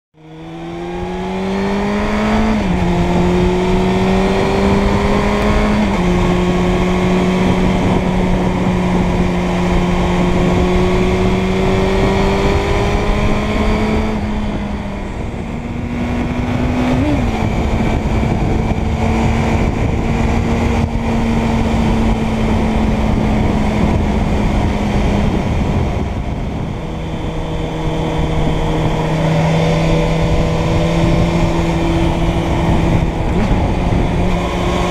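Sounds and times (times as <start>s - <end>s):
motorcycle engine running: 0.2s - 34.9s
wind noise: 0.2s - 34.9s.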